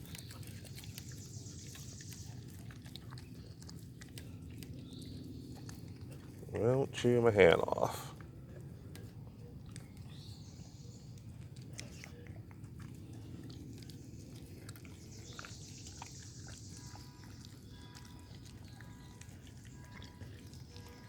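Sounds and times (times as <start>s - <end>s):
dog chewing meat: 0.0s - 21.0s.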